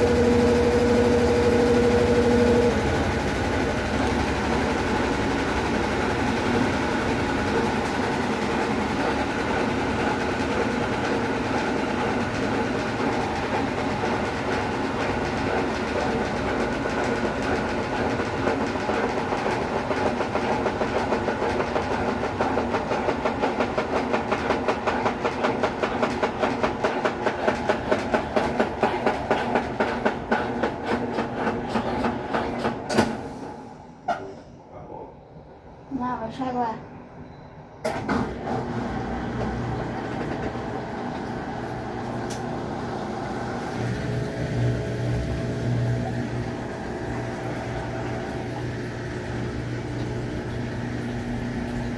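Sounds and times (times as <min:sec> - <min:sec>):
washing machine motor hum: 0:00.0 - 0:34.1, 0:37.9 - 0:51.9.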